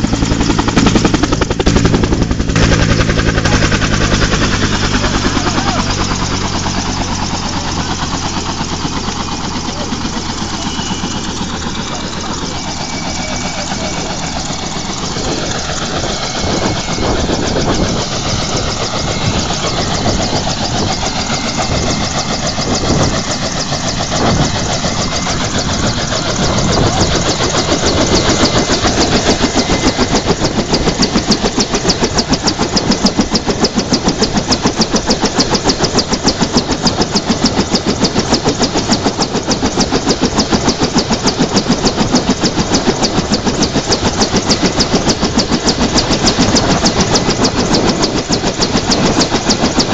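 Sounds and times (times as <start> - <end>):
helicopter rotor blades beating: 0.0 - 49.9
helicopter turbine whine: 0.0 - 49.9.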